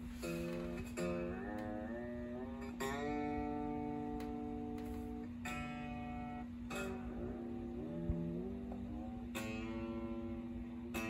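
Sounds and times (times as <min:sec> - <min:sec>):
electric guitar strings ringing: 0:00.0 - 0:11.0
steady low hum: 0:00.0 - 0:11.0.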